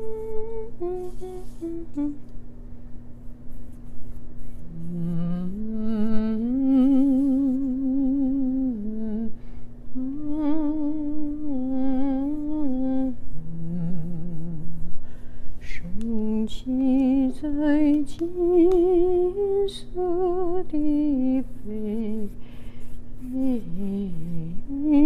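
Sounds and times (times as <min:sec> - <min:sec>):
woman singing slow melody: 0:00.0 - 0:02.4, 0:04.6 - 0:15.0, 0:15.6 - 0:25.0.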